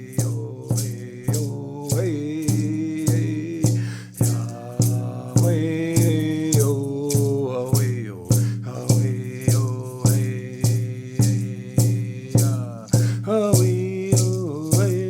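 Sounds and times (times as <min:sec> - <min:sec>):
shaken rattle: 0:00.0 - 0:15.0
steady drum beat: 0:00.0 - 0:15.0
voices chanting: 0:00.0 - 0:15.0.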